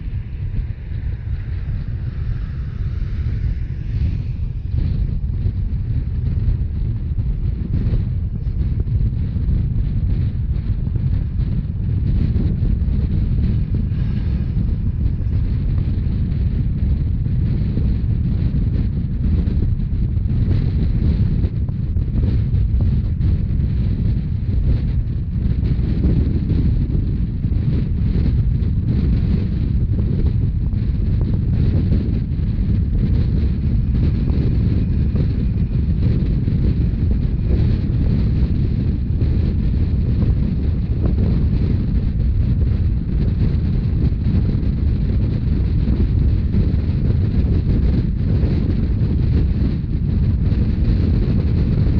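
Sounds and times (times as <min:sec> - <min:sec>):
train running rumble: 0:00.0 - 0:51.9
wind buffeting microphone: 0:00.0 - 0:51.9.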